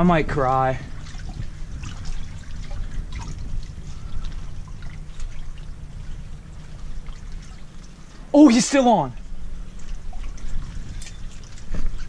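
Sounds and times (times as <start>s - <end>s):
low steady rumble: 0.0s - 12.0s
water lapping and splashing: 0.0s - 12.0s.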